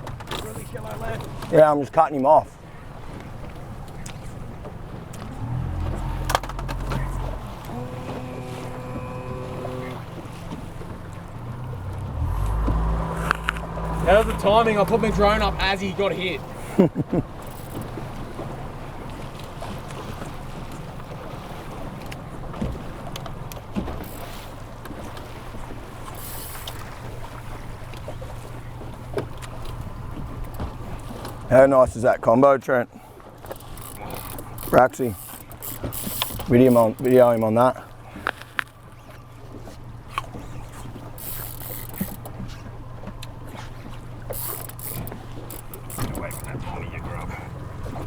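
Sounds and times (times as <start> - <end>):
boat motor humming: 0.0 - 31.7, 33.0 - 48.0
water noise: 0.0 - 32.3, 33.0 - 48.0
wind: 0.0 - 48.0.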